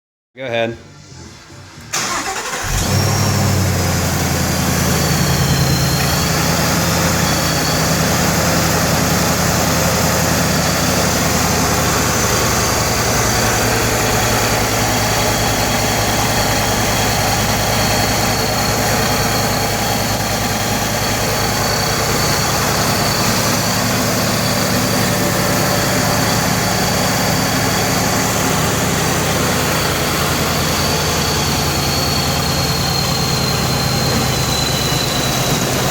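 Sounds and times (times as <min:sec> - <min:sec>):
car engine idling: 0:01.0 - 0:35.9.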